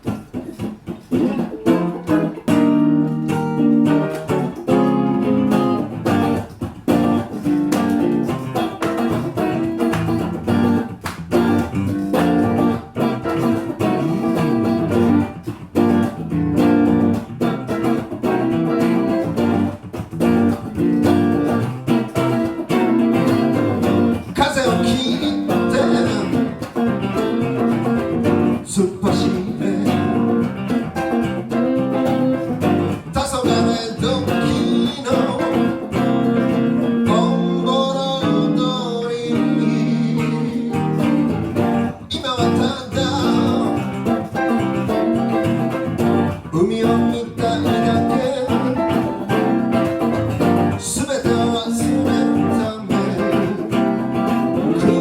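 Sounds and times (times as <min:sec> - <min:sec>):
live band with guitar: 0:00.0 - 0:55.0.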